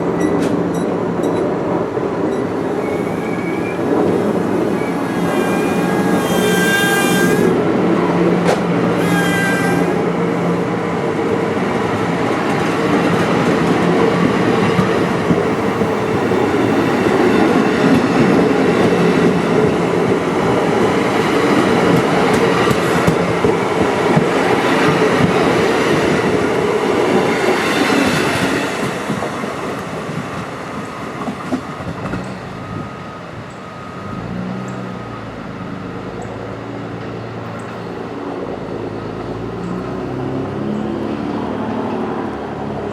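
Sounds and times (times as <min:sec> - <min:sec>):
train passing on tracks: 0:00.0 - 0:42.9.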